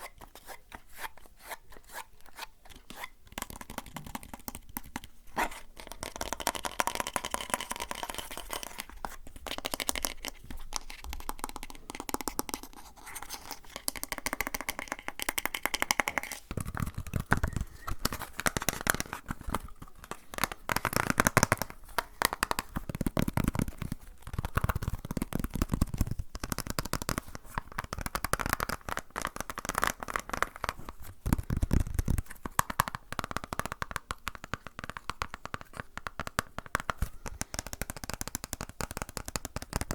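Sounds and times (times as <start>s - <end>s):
crinkling and rustling at microphone: 2.0s - 39.9s.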